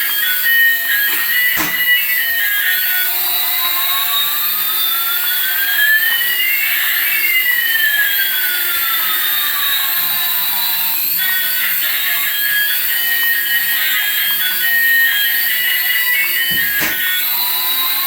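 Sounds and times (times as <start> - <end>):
jet engine whining tones: 0.0 - 18.0.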